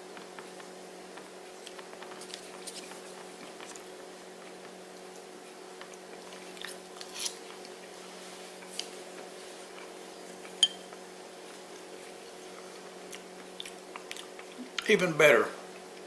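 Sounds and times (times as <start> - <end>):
steady low hum: 0.0 - 16.0
chewing crunchy food: 0.1 - 14.9.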